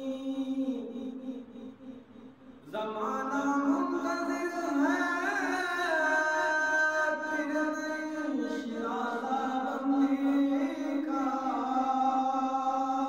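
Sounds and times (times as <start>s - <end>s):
man chanting religious recitation: 0.0s - 13.0s.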